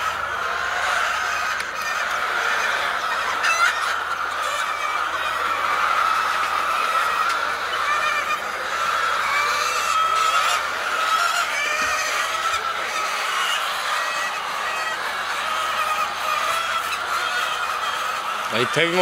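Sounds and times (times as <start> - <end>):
flock of birds calling: 0.0 - 19.0.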